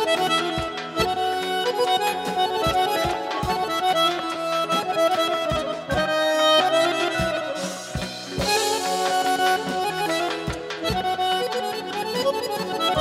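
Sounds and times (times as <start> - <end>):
accordion melody: 0.0 - 13.0.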